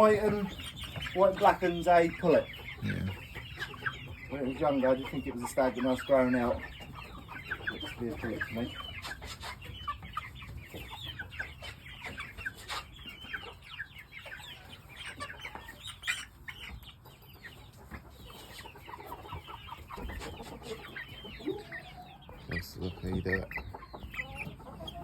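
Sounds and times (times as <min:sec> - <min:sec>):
young chickens peeping and clucking: 0:00.0 - 0:25.0.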